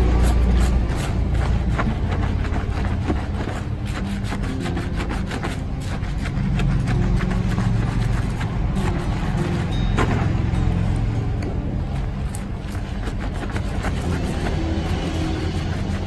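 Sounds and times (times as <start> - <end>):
hands scrubbing lathered scalp: 0.0 - 16.0.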